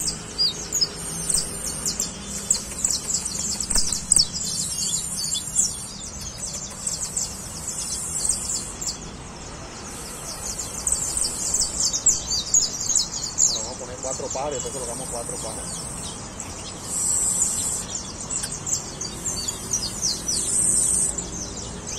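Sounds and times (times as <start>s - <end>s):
finch singing sharp chirps: 0.0s - 21.9s.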